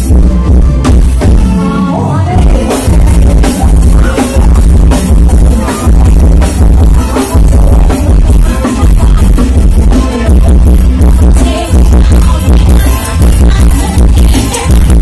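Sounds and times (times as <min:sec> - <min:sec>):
loud music with pounding bass: 0:00.0 - 0:15.0.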